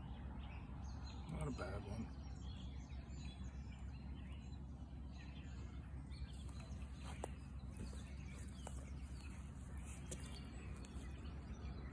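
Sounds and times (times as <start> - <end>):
faint bird chirps: 0.0 - 11.9
low steady rumble: 2.0 - 11.9.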